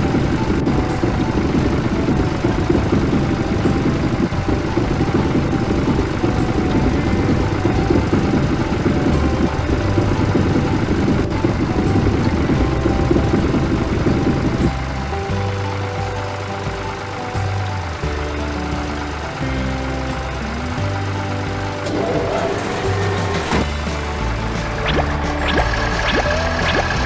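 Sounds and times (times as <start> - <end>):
tractor engine rumble: 0.0 - 27.0.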